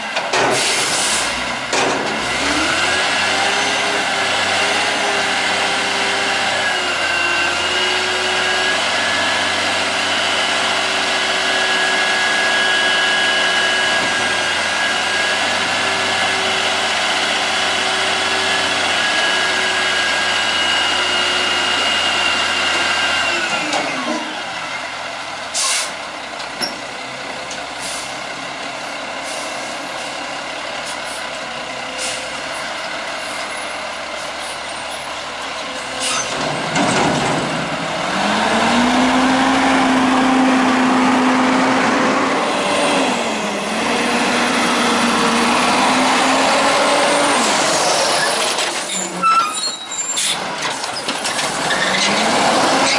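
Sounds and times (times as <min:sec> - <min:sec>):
diesel engine revving: 0:00.0 - 0:52.9.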